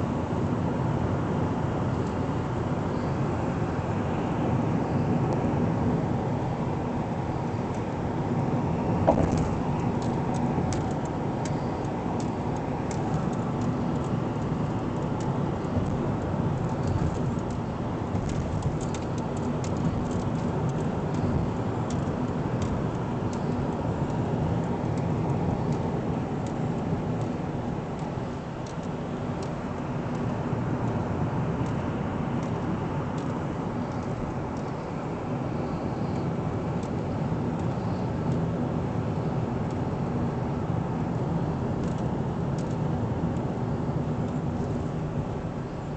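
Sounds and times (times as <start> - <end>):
road and engine noise in car: 0.0 - 45.9.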